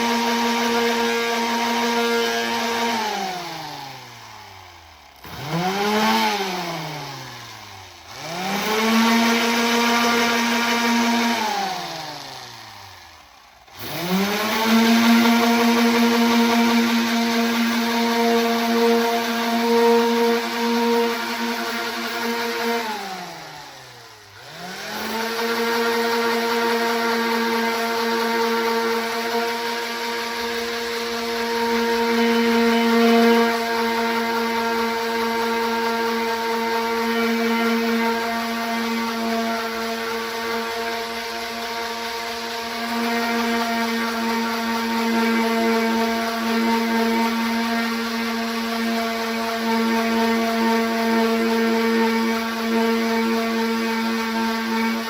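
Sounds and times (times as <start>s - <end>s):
orbital sander humming: 0.0s - 55.0s.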